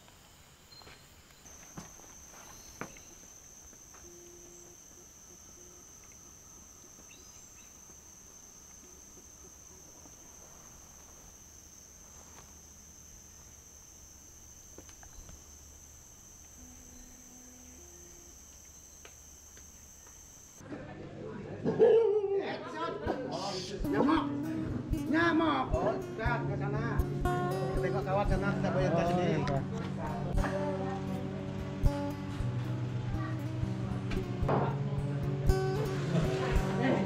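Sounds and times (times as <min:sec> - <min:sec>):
high-pitched insect drone: 0:00.0 - 0:20.6, 0:23.3 - 0:34.4.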